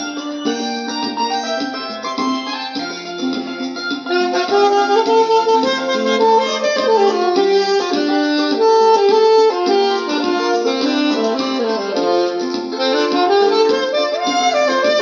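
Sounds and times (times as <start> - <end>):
electronic keyboard accompaniment: 0.0 - 15.0
saxophone melody: 0.0 - 15.0.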